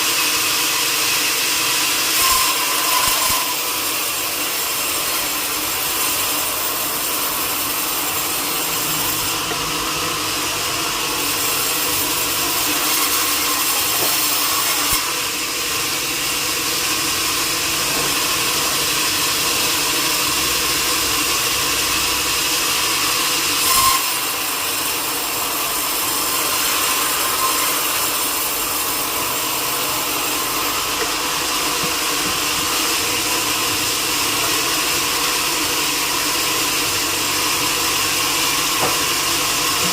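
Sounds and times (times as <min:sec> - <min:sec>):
saw cutting through a log: 0:00.0 - 0:39.9.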